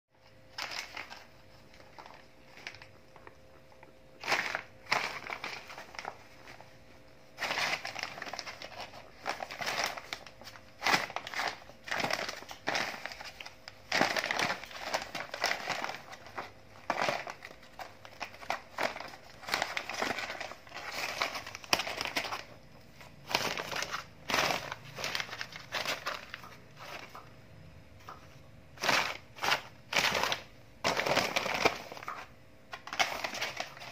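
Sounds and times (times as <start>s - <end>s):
paper crinkling and rustling: 0.2s - 27.4s, 28.0s - 33.9s.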